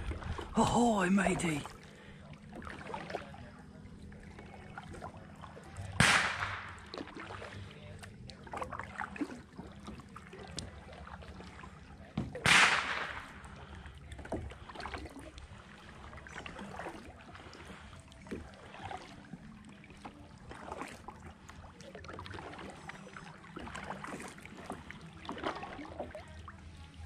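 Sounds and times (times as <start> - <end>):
faint water trickle: 0.0 - 6.0, 6.8 - 12.2, 13.3 - 27.0
kayak paddles splashing: 0.0 - 27.0.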